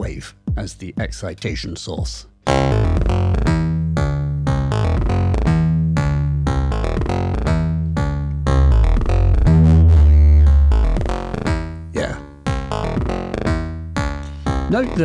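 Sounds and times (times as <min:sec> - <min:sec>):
plucked synthesizer low notes: 0:02.5 - 0:15.0.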